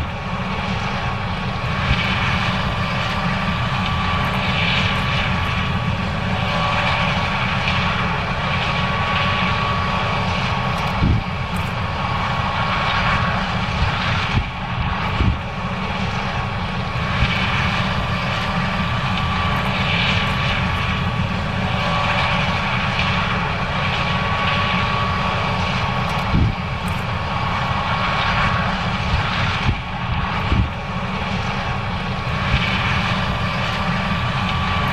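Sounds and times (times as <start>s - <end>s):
combine engine drone: 0.0s - 34.9s
high steady whine: 0.0s - 34.9s.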